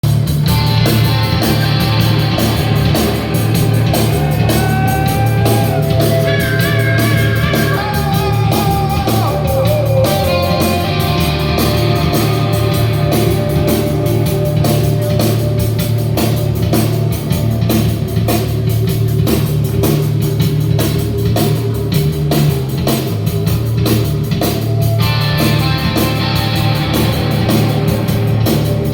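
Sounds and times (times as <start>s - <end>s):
rock band playing live: 0.0s - 28.9s
gliding electric guitar: 0.1s - 18.8s, 24.4s - 28.9s.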